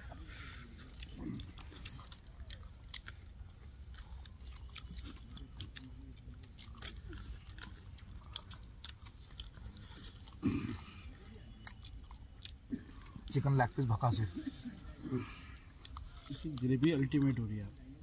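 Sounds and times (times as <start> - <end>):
person chewing with wet smacks: 0.0 - 18.0.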